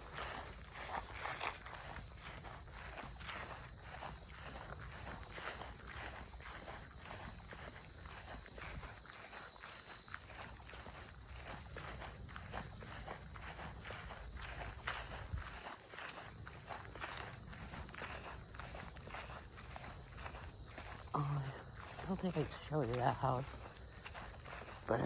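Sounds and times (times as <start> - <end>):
footsteps crunching: 0.0 - 25.0
high-pitched insect trill: 0.0 - 25.0.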